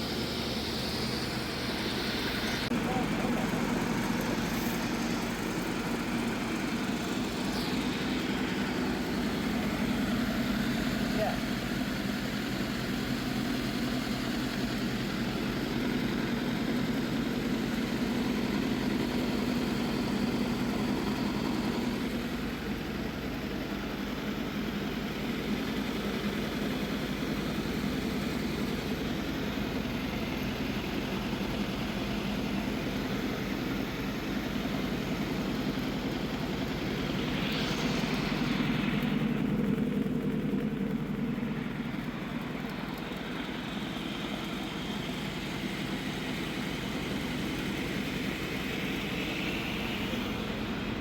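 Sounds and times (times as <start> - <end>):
engine-driven machine droning: 0.0 - 51.0.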